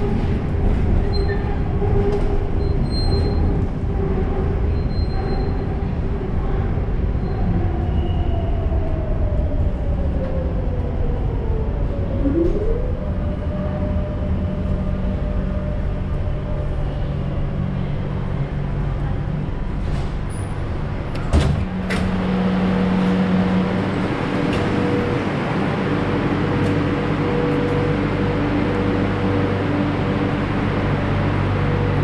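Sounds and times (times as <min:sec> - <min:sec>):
metro train rumble and hiss: 0:00.0 - 0:32.0.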